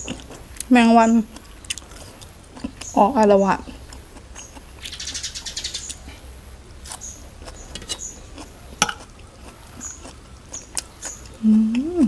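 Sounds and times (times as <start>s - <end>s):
chewing crisp raw vegetables: 0.0s - 12.0s.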